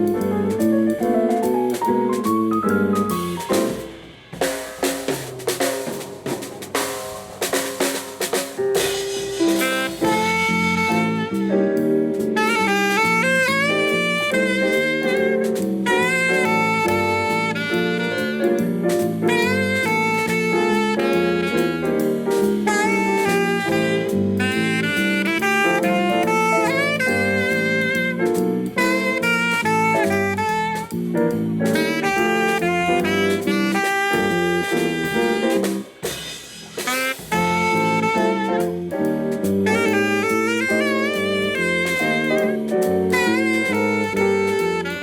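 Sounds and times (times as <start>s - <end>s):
drum strokes: 0.0s - 45.0s
live band playing instrumental: 0.0s - 45.0s.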